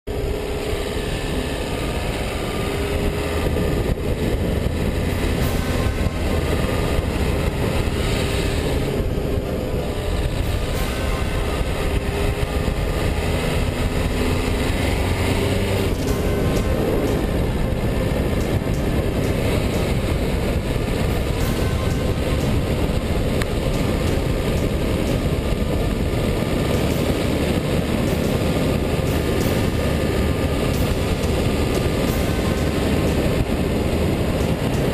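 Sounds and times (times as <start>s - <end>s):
diesel car engine hum: 0.0s - 34.9s
road noise: 0.0s - 34.9s.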